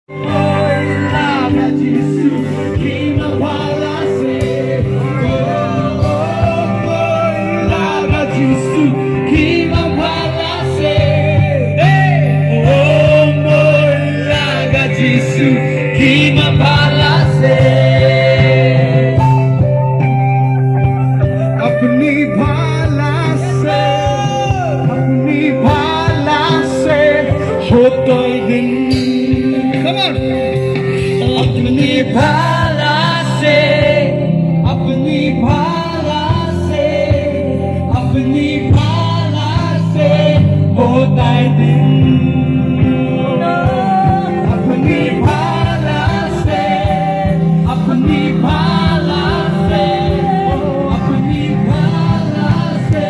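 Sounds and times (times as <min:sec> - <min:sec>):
amplified singing: 0:00.0 - 0:53.0
drums: 0:00.0 - 0:53.0
electric guitar: 0:00.0 - 0:53.0
keyboard: 0:00.0 - 0:53.0.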